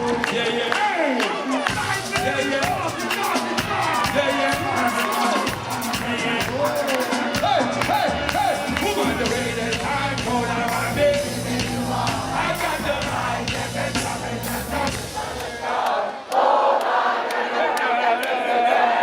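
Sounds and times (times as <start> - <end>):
loud amplified live band: 0.0 - 15.9
person singing: 0.0 - 16.0.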